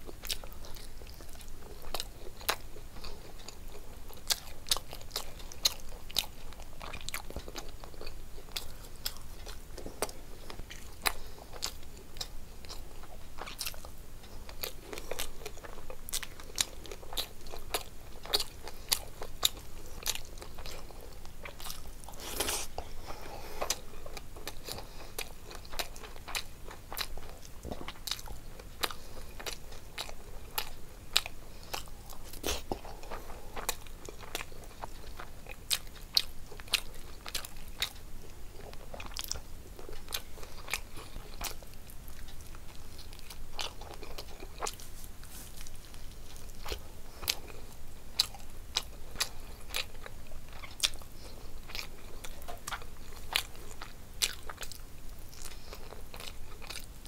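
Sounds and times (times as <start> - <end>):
person chewing with wet smacks: 0.0 - 57.0.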